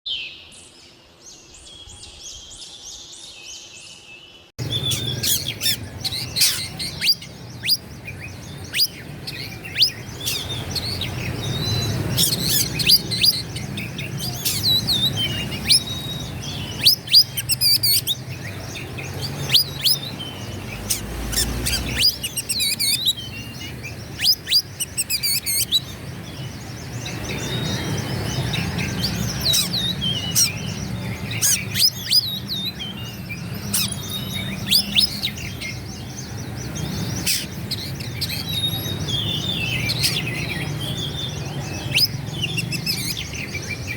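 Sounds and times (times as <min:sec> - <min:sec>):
bird singing whistled notes: 0:00.1 - 0:43.9.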